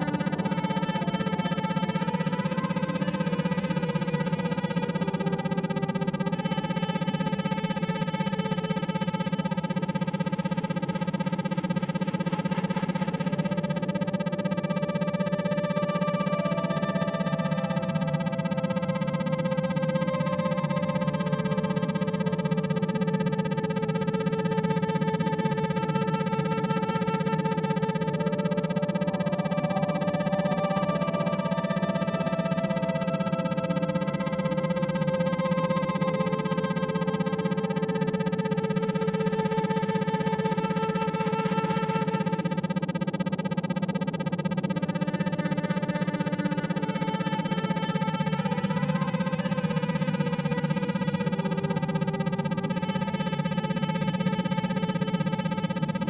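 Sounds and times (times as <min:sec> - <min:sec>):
pulsing synthesized drone: 0:00.0 - 0:56.0.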